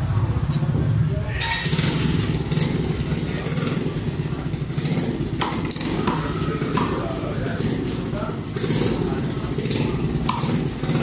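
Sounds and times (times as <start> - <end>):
low engine-like rumble: 0.0 - 11.0.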